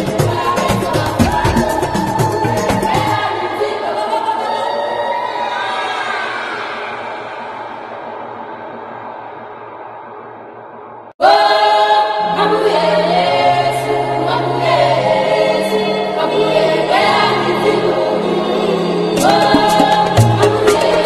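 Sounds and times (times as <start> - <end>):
gospel choir singing: 0.0 - 8.4, 11.2 - 21.0.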